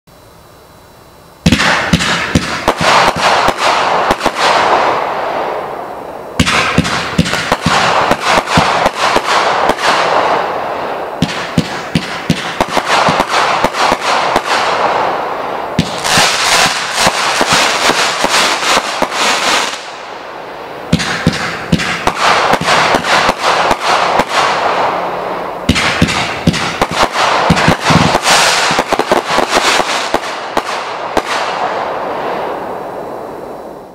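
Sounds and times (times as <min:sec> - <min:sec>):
crackling firework bursts: 0:00.2 - 0:33.9
fireworks firing rapid shots: 0:01.4 - 0:33.2.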